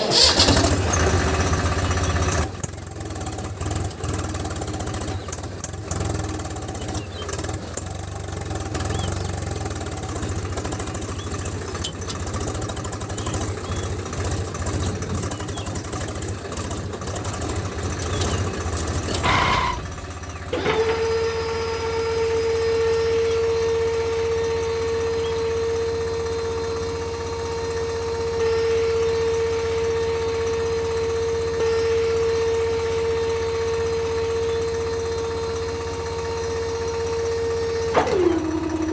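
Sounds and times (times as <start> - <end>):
rattling clicking motor whir: 0.0 - 38.9.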